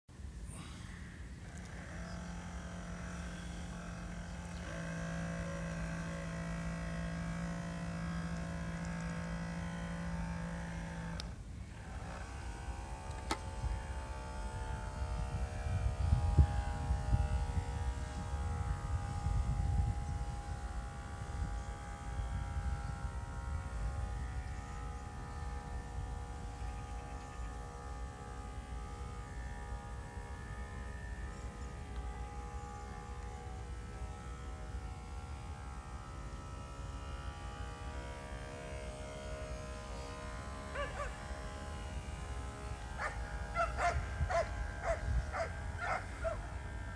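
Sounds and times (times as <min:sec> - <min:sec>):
electric motor whine: 0:00.2 - 0:46.9.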